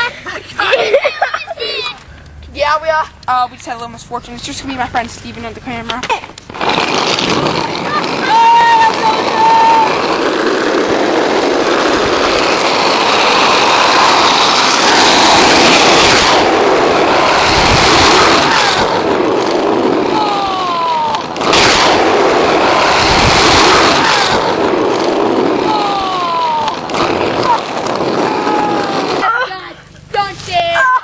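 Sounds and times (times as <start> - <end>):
road noise: 0.0 - 30.6
wind buffeting microphone: 3.8 - 29.4.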